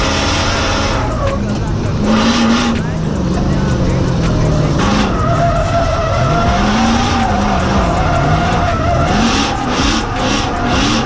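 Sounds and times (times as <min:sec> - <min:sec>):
car engine revving: 0:00.0 - 0:11.0
tyres squealing: 0:00.0 - 0:11.0.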